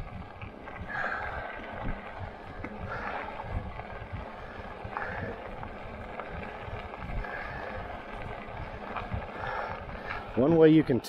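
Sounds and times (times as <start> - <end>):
wind on microphone: 0.0 - 10.8
bike tyres rolling over gravel: 0.0 - 11.0.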